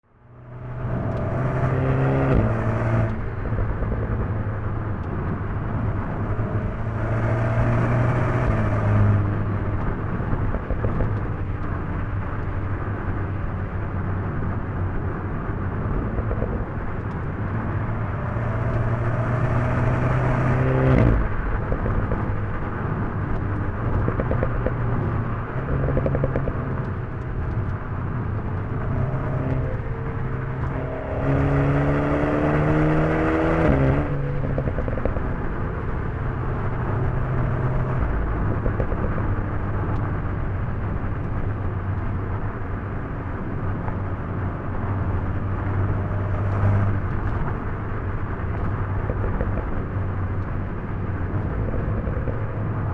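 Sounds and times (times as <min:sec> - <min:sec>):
car engine revving: 0:00.2 - 0:11.1, 0:15.7 - 0:41.5, 0:45.1 - 0:52.9.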